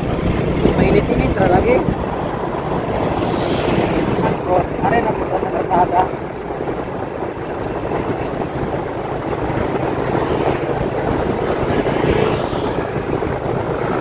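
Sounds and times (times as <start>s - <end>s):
vehicle engine running: 0.0s - 14.0s
wind on microphone: 0.0s - 14.0s.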